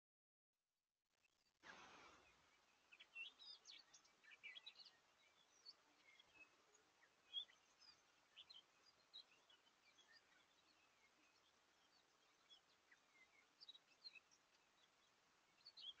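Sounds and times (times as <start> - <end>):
faint birdsong: 1.1 - 16.0
steady hiss: 1.6 - 16.0.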